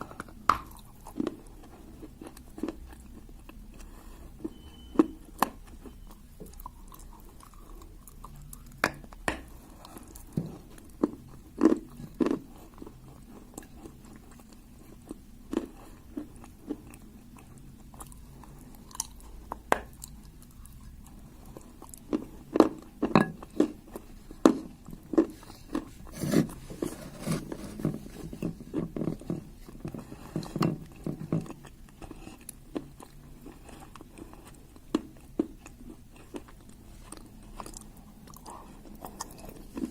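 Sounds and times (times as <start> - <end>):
person chewing clay crunches: 0.0 - 39.9.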